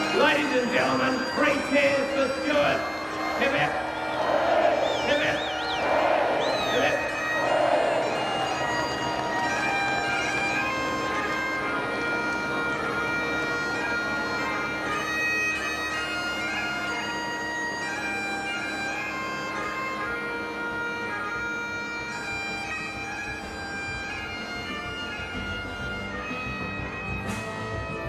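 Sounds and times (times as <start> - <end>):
bagpipes playing: 0.0 - 28.0.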